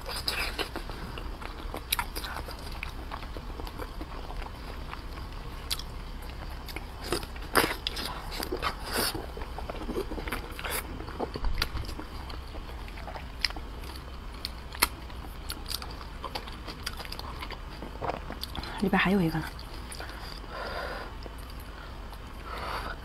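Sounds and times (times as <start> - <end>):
close-miked chewing: 0.0 - 23.0
low steady hum: 0.0 - 23.0.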